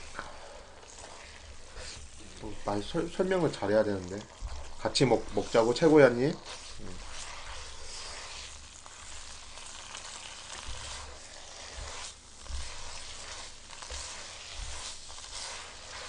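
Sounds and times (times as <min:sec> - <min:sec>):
noodles sizzling in a pot: 0:00.0 - 0:16.0.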